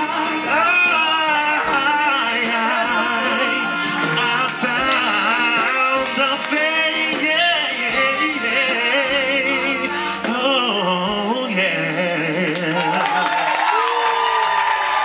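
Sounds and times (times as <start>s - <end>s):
live band playing: 0.0s - 12.9s
person singing with vibrato: 0.0s - 13.4s.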